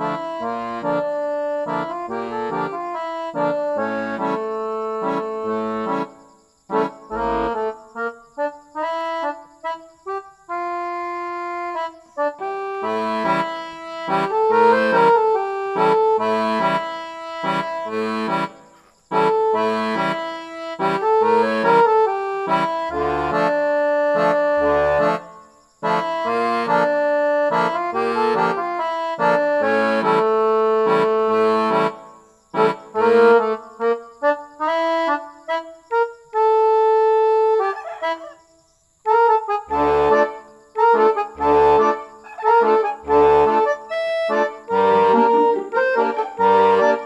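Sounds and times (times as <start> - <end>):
instrumental background music: 0.0 - 6.1, 6.7 - 38.2, 39.1 - 47.0.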